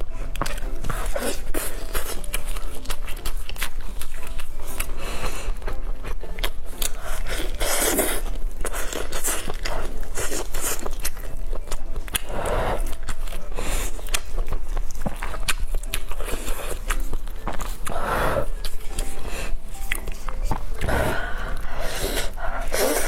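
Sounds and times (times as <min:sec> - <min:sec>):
wet chewing and biting: 0:00.0 - 0:23.0.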